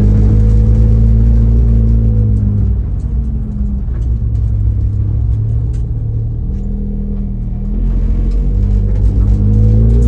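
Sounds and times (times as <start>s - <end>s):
race car engine drone: 0.0s - 10.0s.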